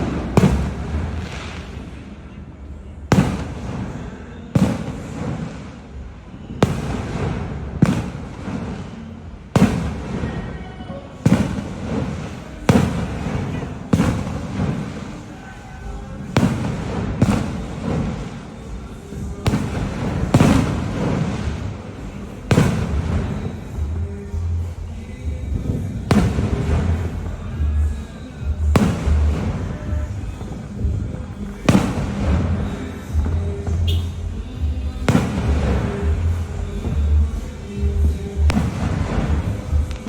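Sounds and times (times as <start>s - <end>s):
fireworks exploding: 0.0s - 40.0s.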